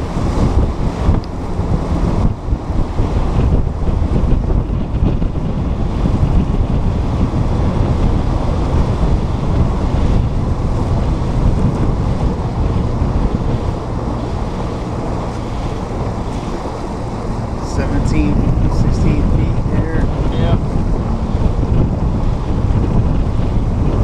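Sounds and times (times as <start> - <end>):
water rushing past boat hull: 0.0 - 24.0
wind buffeting microphone: 0.0 - 24.0.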